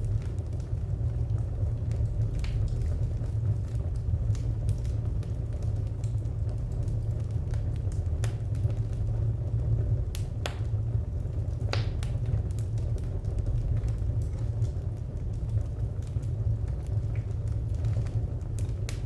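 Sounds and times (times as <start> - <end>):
fire crackling and popping: 0.0 - 19.0
wood fire rumbling: 0.0 - 19.0.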